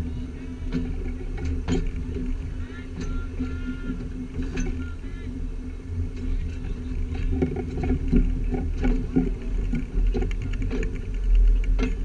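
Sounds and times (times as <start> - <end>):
train cars clanking and rattling: 0.0 - 12.0
train rumbling on rails: 0.0 - 12.0.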